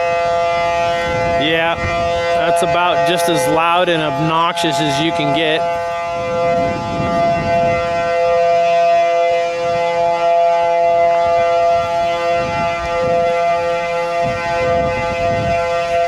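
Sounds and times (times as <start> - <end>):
warning siren steady chord: 0.0 - 16.0.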